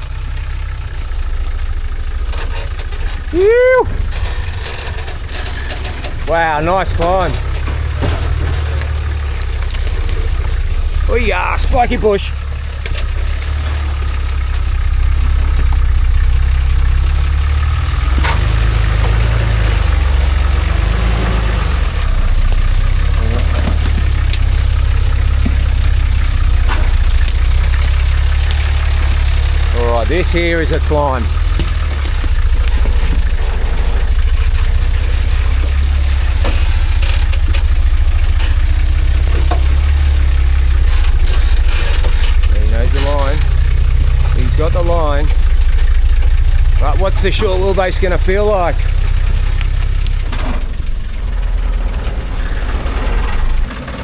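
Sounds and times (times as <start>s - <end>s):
truck engine running at low revs: 0.0s - 54.0s.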